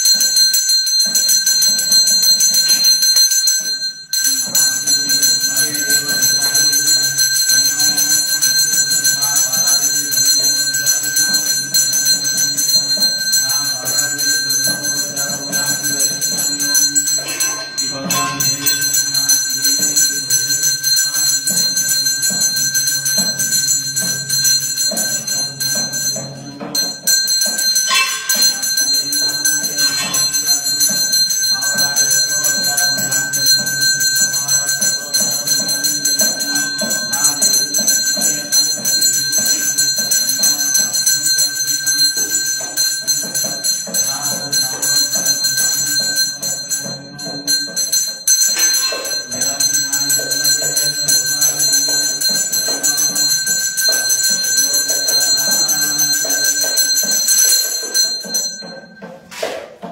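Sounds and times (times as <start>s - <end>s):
steady rhythmic beat: 0.0s - 59.9s
temple bell ringing: 0.0s - 59.9s.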